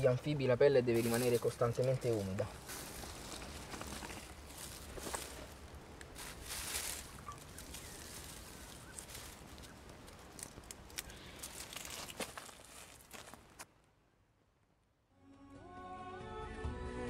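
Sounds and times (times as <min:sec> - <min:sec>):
dry leaves rustling and crackling: 0:00.0 - 0:13.7.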